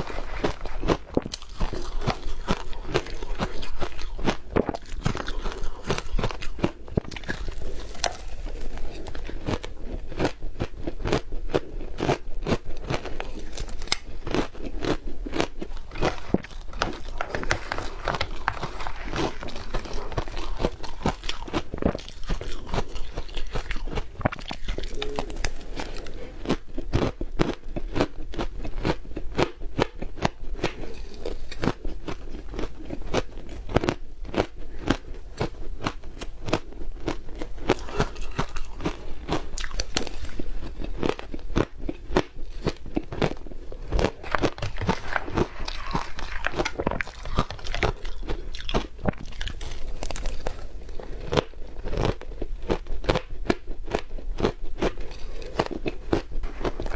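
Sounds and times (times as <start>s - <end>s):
crunching and chewing ice: 0.0s - 56.9s.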